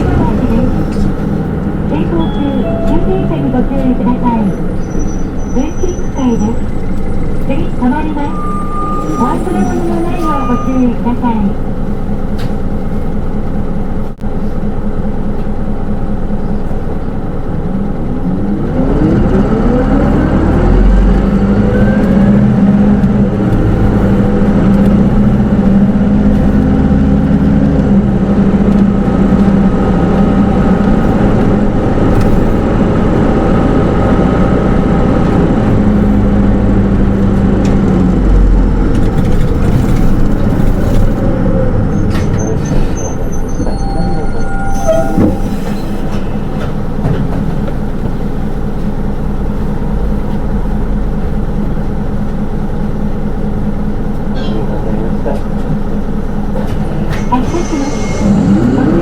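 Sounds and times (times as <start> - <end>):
bus engine and transmission: 0.0 - 59.0.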